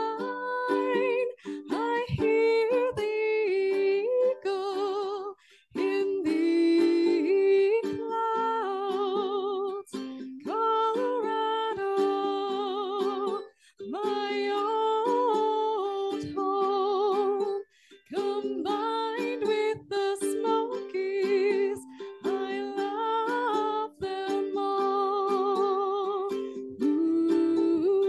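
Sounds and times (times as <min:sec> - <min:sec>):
strummed electric ukulele: 0:00.0 - 0:05.2, 0:05.8 - 0:28.0
woman singing with vibrato: 0:00.0 - 0:28.0.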